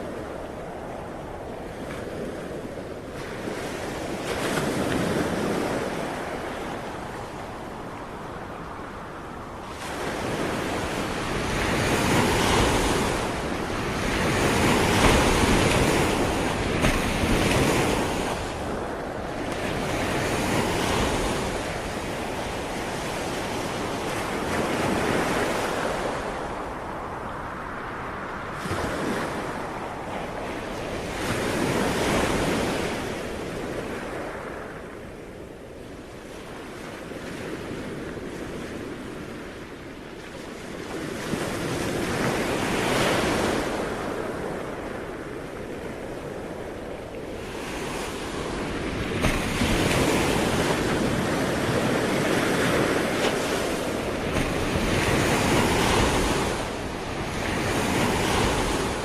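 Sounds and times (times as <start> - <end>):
sea waves breaking on shore: 0.0 - 59.0
wind on microphone: 0.0 - 59.0.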